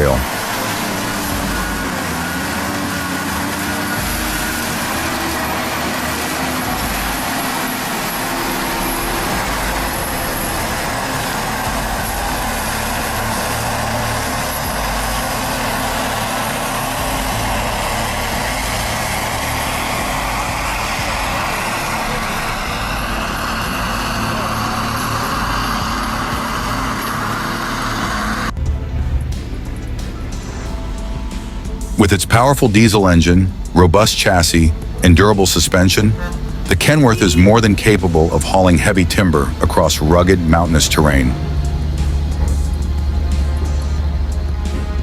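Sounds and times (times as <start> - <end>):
heavy machine engine running: 0.0 - 45.0.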